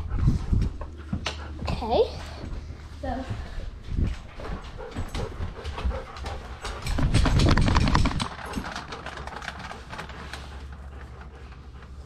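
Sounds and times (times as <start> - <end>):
dog paws tapping: 0.0 - 12.0
rumbling: 0.0 - 12.0.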